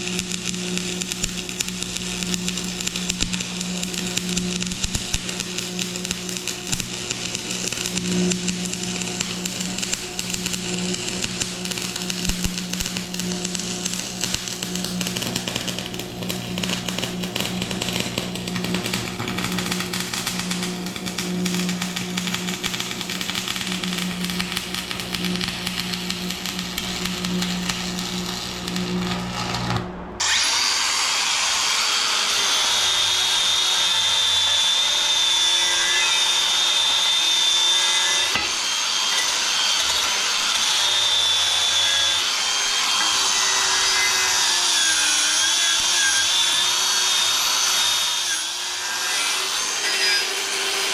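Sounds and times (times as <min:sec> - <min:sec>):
arc welding crackle: 0:00.0 - 0:50.9
power tool whining: 0:00.0 - 0:50.9.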